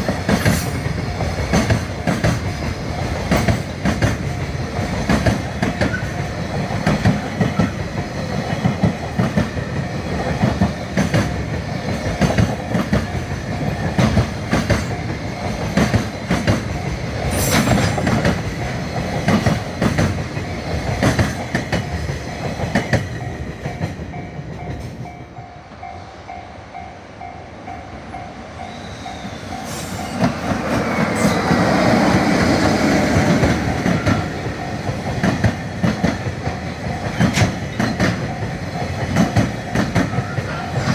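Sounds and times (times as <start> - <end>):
train wheels clacking on rails: 0.0 - 40.9.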